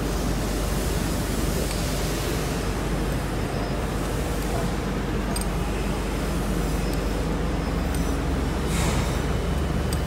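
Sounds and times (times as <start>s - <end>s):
machinery hum and hiss: 0.0s - 10.0s.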